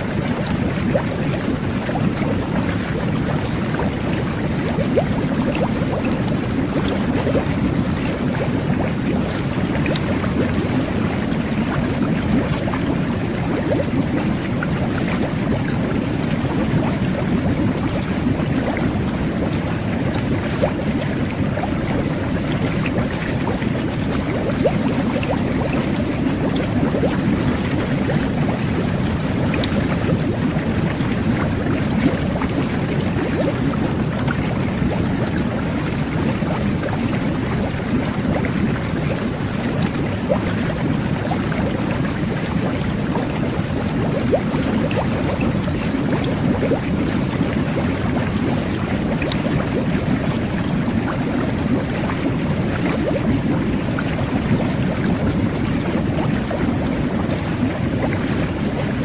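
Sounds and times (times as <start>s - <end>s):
whirlpool bath water bubbling: 0.0s - 59.0s.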